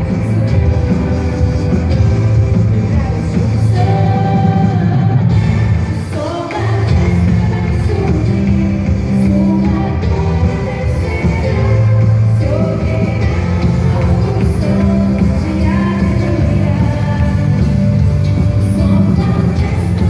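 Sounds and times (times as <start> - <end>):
person singing: 0.0 - 20.0
steady bass: 0.0 - 20.0
worship pop-rock song: 0.0 - 20.0.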